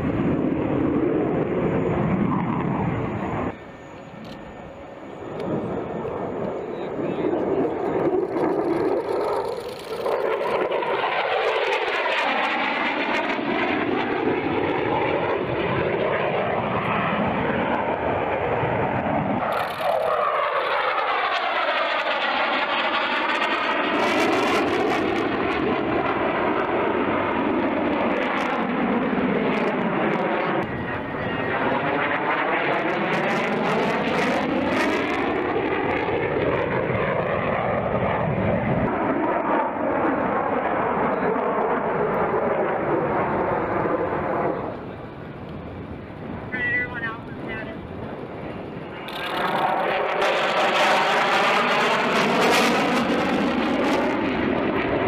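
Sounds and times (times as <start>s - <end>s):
fighter jet roar: 0.0s - 55.0s.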